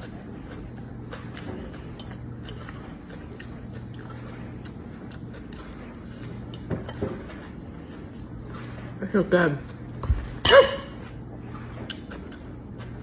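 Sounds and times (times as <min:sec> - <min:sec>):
person chewing: 0:00.0 - 0:09.0, 0:09.6 - 0:13.0
steady low hum: 0:00.0 - 0:13.0.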